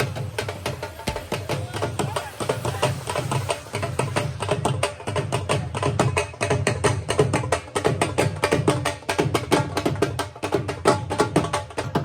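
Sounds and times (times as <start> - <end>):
music with fast drum strokes: 0.0 - 12.0.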